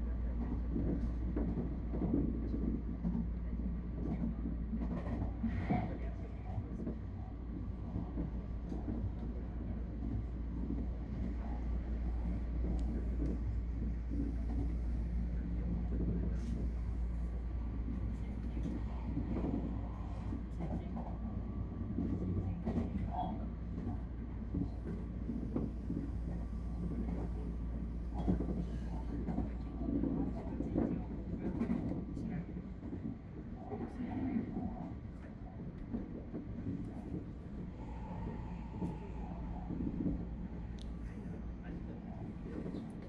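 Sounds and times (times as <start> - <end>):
train low rumble: 0.0 - 43.0.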